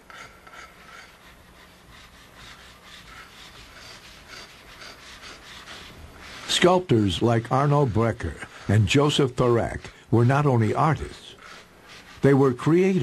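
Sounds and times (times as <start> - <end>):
hand tool scraping hard surface: 0.0 - 13.0.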